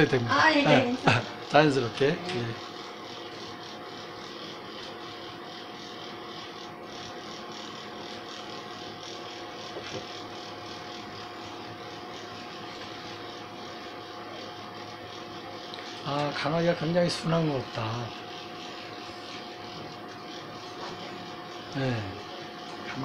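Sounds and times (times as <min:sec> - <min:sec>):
electric clippers humming: 0:00.0 - 0:23.0.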